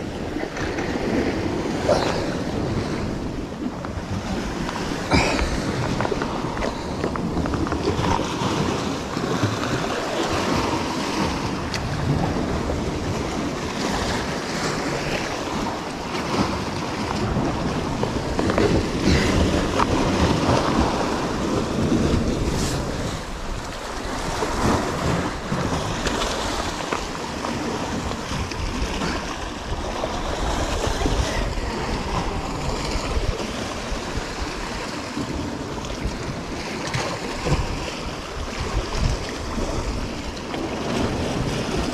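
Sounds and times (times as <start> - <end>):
sea surf breaking against rocks: 0.0 - 41.9
wind buffeting microphone: 0.0 - 41.9.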